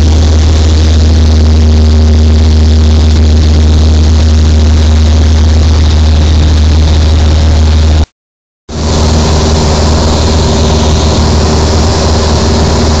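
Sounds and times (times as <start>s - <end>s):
plane engine and propeller: 0.0s - 8.1s, 8.7s - 13.0s.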